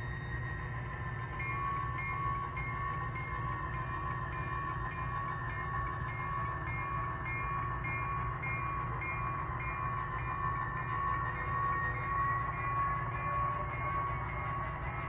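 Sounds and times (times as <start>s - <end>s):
model locomotive humming and ticking: 0.0s - 15.0s.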